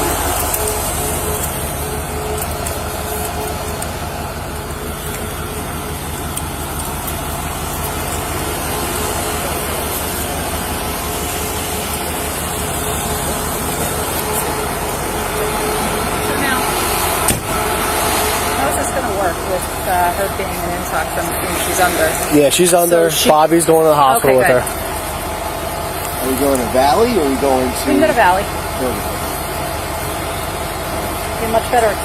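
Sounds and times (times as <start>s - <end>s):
large vehicle engine idling: 0.0s - 32.0s.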